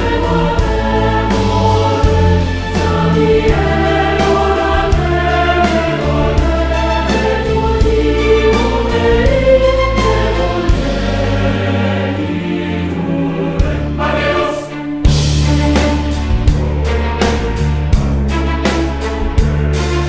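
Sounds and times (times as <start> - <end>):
choir singing: 0.0 - 16.2
held bass: 0.0 - 20.0
regular beat: 0.0 - 20.0.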